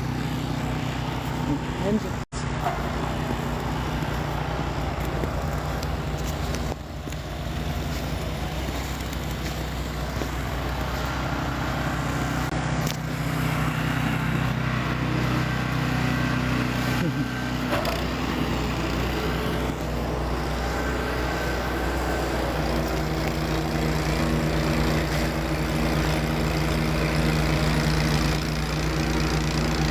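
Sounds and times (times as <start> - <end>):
low motor hum: 0.0 - 29.9.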